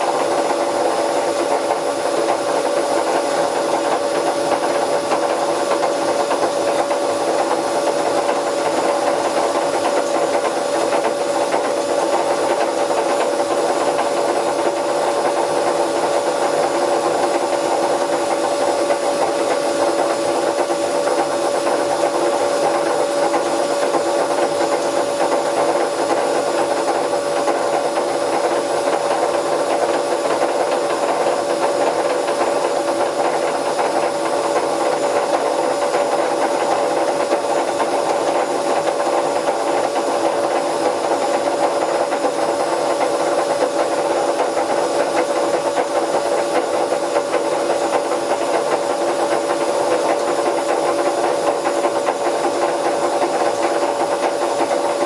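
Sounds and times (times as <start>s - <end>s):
washing machine running: 0.0s - 55.0s.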